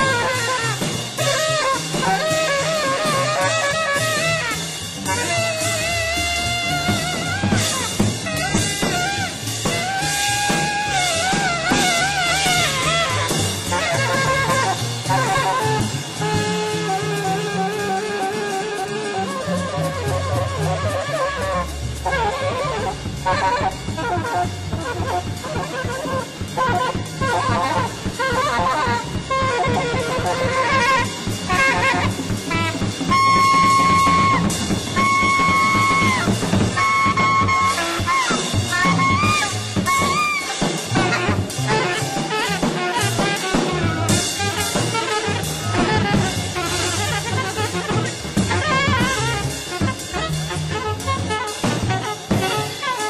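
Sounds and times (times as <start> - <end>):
free jazz ensemble: 0.0 - 53.0
horn holding long high notes: 0.0 - 53.0.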